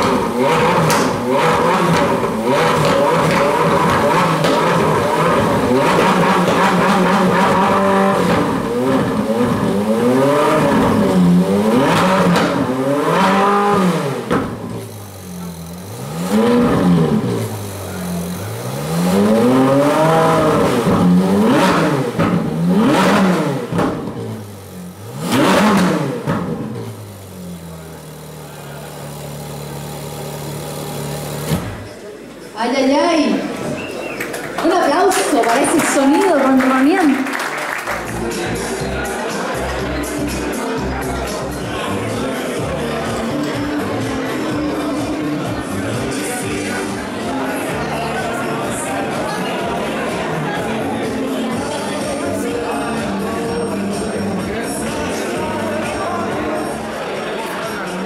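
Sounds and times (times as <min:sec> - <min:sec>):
car engine idling and revving: 0:00.0 - 0:32.0, 0:37.9 - 0:57.2.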